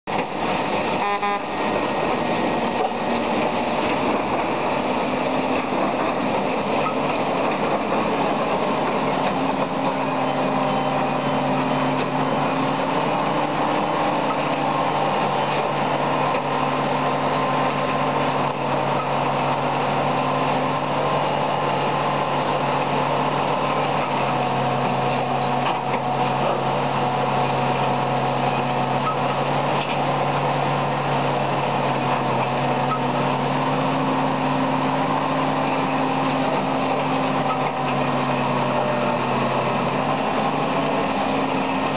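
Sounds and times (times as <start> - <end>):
machine engine hum: 0.1 - 41.9.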